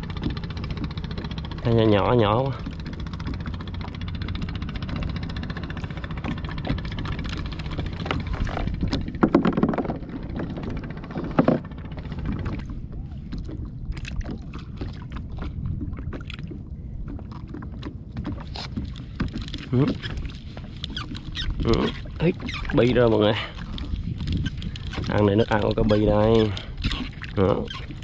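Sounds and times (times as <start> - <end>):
gear bumping and rustling: 0.0 - 13.6, 17.0 - 28.0
water lapping: 0.0 - 28.0
wind: 0.0 - 28.0.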